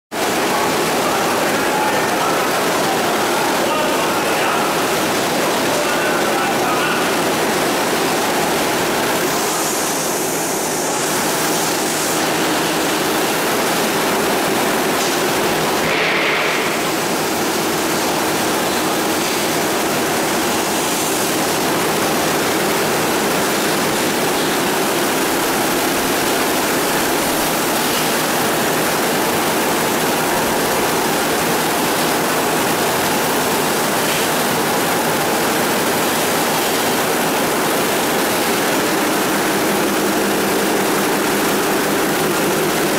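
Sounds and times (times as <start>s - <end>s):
churning water in a tank: 0.1s - 42.9s
machine noise: 0.1s - 42.9s.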